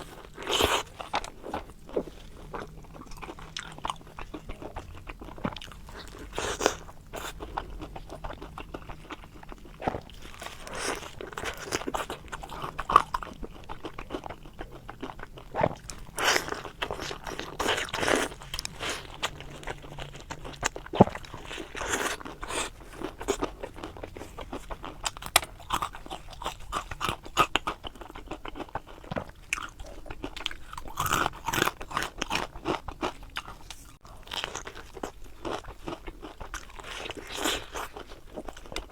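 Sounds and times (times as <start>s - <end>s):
chewing: 0.0s - 38.9s
crunchy fried food biting: 0.1s - 38.9s.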